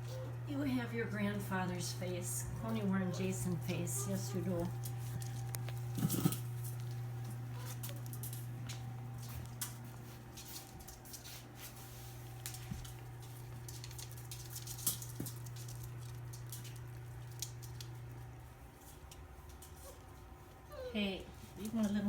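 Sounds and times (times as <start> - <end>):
puppies clicking and scuffing: 0.0 - 22.0
steady low hum: 0.0 - 22.0.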